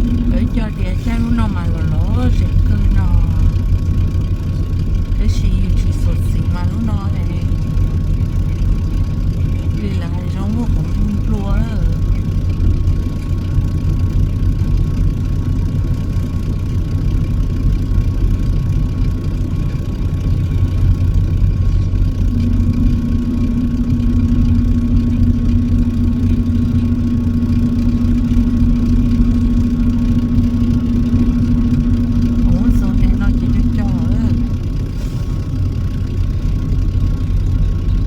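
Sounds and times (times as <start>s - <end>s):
steady hum: 0.0s - 38.0s
truck engine and road noise: 0.0s - 38.0s.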